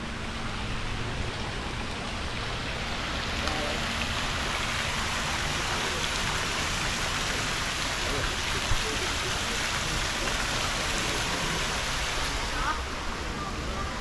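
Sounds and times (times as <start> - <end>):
water splashing into pool: 1.3 - 12.8.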